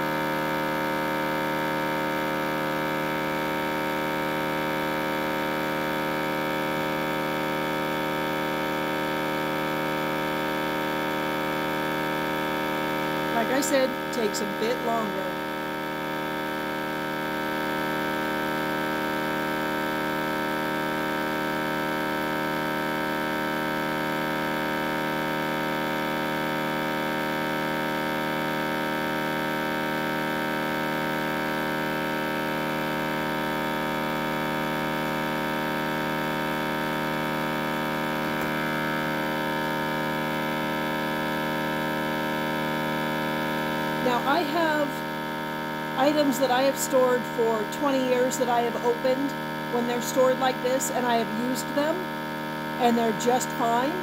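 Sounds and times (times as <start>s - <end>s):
vacuum pump electric hum: 0.0s - 54.0s.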